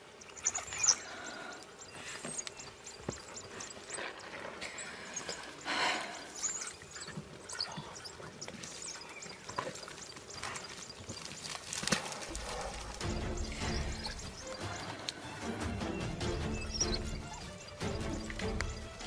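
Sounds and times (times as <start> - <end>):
wild dogs twittering chirps: 0.0 - 19.0.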